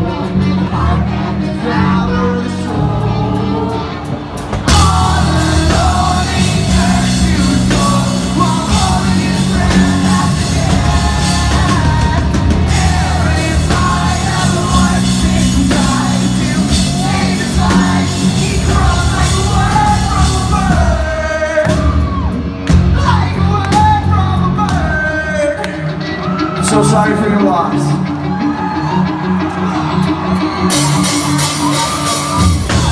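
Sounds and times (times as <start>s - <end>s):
person singing: 0.0s - 29.1s
bass guitar: 0.0s - 32.9s
drums: 0.0s - 32.9s
electric guitars: 0.0s - 32.9s.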